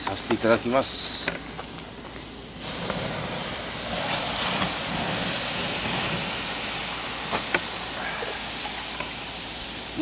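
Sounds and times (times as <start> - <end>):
embers hissing with steam: 0.0 - 10.0.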